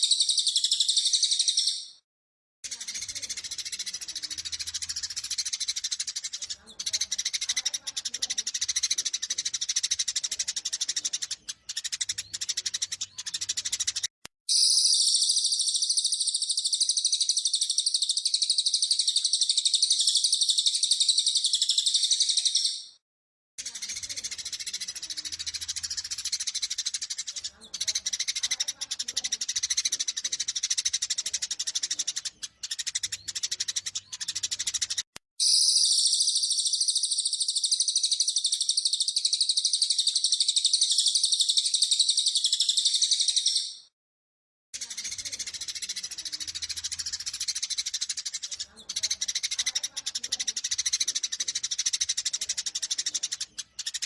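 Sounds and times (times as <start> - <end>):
high bird twittering: 0.0 - 2.0, 2.6 - 23.0, 23.6 - 43.9, 44.8 - 54.0
sparrows chirping: 0.0 - 2.0, 2.6 - 23.0, 23.6 - 43.9, 44.8 - 54.0.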